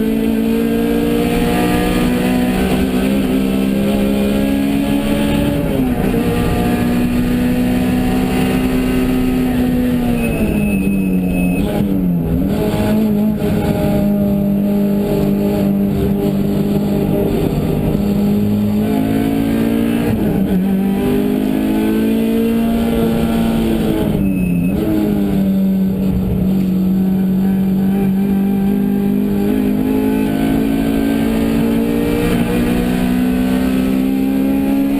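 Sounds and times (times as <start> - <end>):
car engine droning: 0.0 - 34.9.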